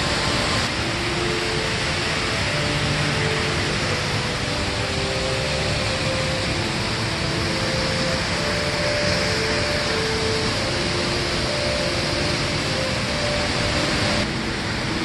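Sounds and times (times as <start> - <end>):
indoor waterfall rushing: 0.0 - 15.0.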